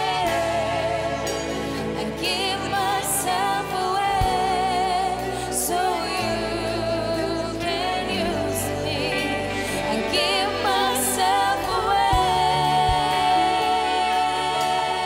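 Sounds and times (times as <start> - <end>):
electric guitar: 0.0 - 15.0
keyboard: 0.0 - 15.0
people singing with vibrato: 0.0 - 15.0
violin: 0.0 - 15.0
worship band playing: 0.0 - 15.0.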